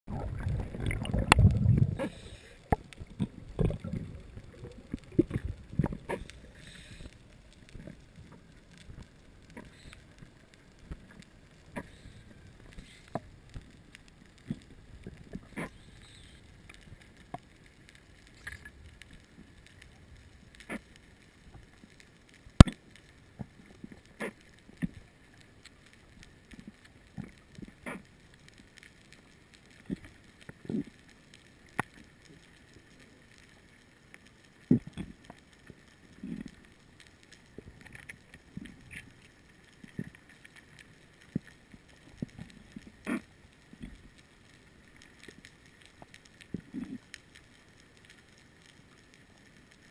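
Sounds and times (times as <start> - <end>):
faint watery background: 0.0 - 49.9
sharp underwater clicks: 0.1 - 49.9.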